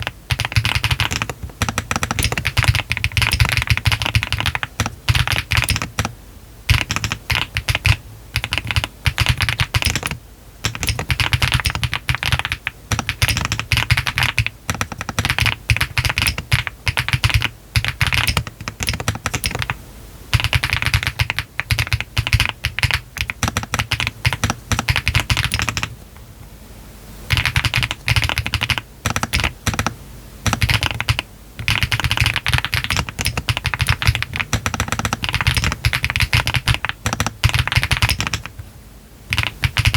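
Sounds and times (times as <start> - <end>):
typing on a mechanical keyboard: 0.0 - 26.0, 27.3 - 38.6, 39.3 - 39.9.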